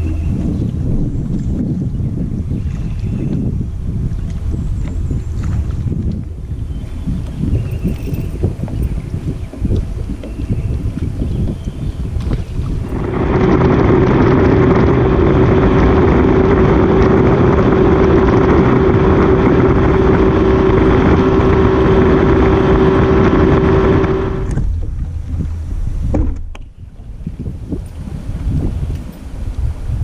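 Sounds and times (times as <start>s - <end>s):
outboard engine running: 0.0s - 30.0s
wind rushing: 5.7s - 30.0s.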